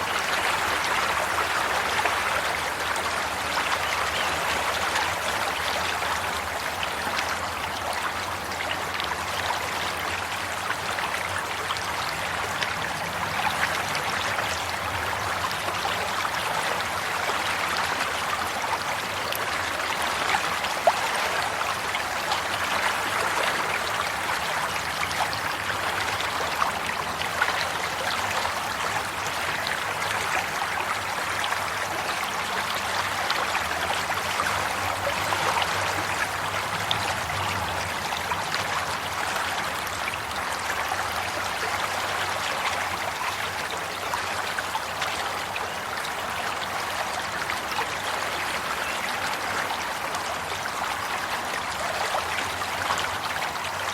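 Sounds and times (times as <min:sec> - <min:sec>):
stream water babbling: 0:00.0 - 0:53.9.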